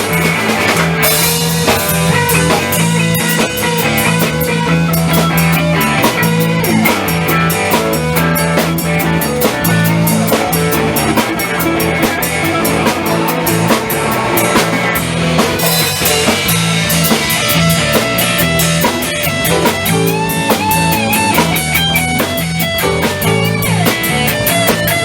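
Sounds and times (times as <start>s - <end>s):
instrumental rock music: 0.0s - 25.0s.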